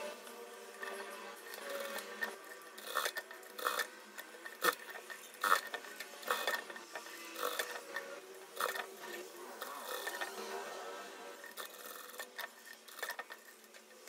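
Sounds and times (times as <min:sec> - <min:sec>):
sewing machine stitching: 0:00.7 - 0:14.0.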